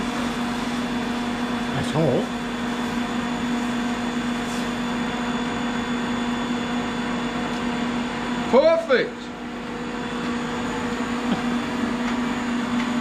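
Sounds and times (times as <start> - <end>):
induction heater humming: 0.0 - 13.0.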